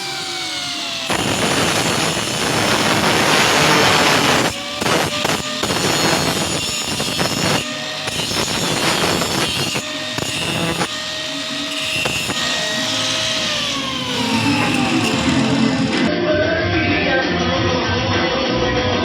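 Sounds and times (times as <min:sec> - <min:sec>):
power tool whining on metal pipe: 0:00.0 - 0:16.1.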